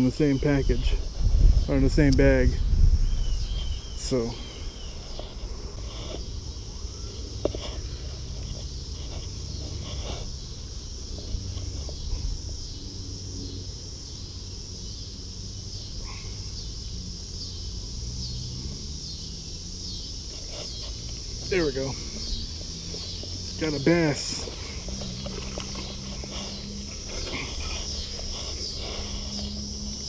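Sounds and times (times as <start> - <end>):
insects chirring: 0.0 - 30.0
low rumble on microphone: 0.6 - 14.5, 15.1 - 30.0.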